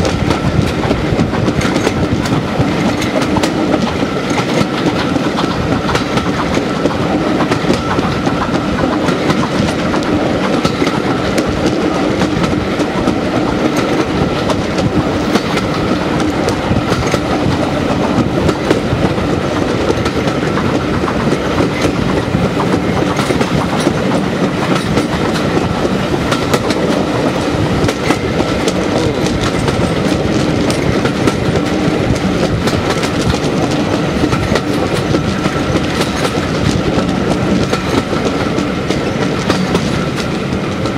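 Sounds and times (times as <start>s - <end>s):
train wheels rumbling: 0.0s - 40.9s
wheels clicking over rail joints: 0.0s - 40.9s.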